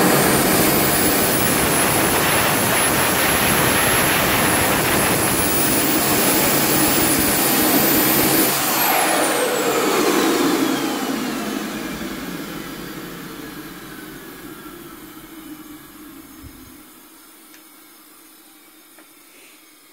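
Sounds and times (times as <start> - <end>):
jet turbine whining: 0.0 - 17.3.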